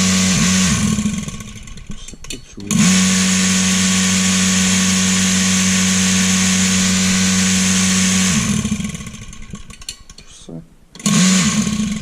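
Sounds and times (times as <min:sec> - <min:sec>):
electric motor hum: 0:00.0 - 0:09.9, 0:10.9 - 0:12.0
vacuum pump running and winding down: 0:00.0 - 0:10.2, 0:11.0 - 0:12.0.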